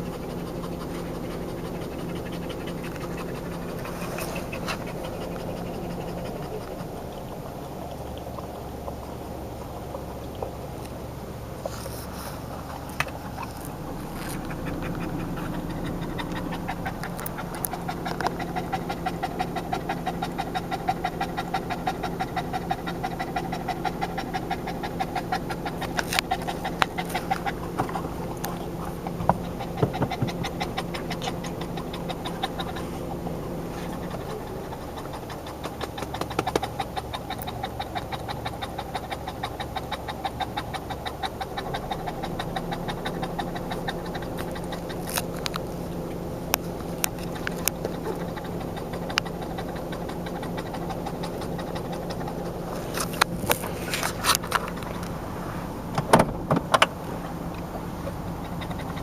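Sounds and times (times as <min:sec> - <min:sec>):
dog panting fast: 0:00.0 - 0:10.7, 0:11.6 - 0:55.2, 0:58.0 - 0:59.0.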